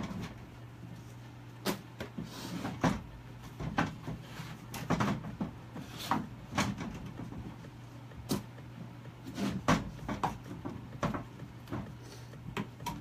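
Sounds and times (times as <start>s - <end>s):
steady low hum: 0.0s - 13.0s
hard knocks and clunks: 1.7s - 13.0s.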